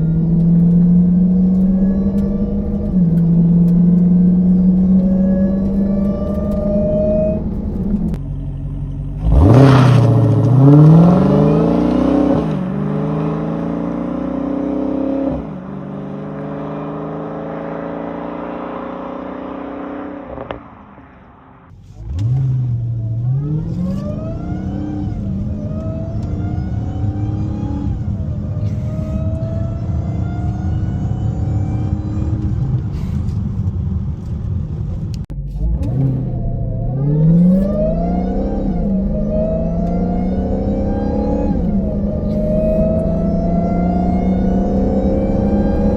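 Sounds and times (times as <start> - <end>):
car engine idling and accelerating: 0.0 - 45.9.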